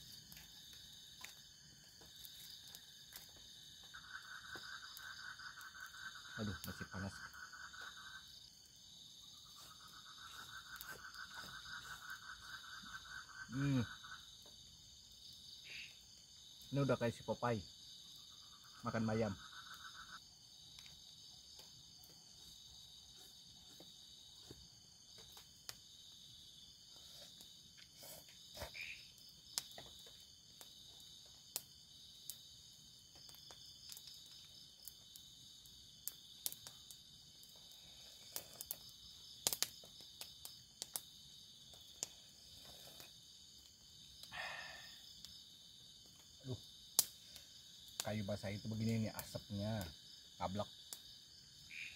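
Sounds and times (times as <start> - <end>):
night insects chirring: 0.0 - 51.9.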